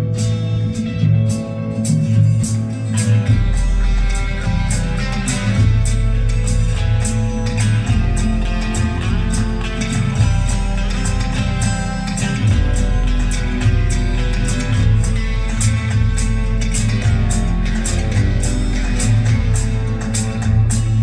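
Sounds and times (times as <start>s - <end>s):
deep bass line: 0.0s - 21.0s
guitar music over speakers: 0.0s - 21.0s.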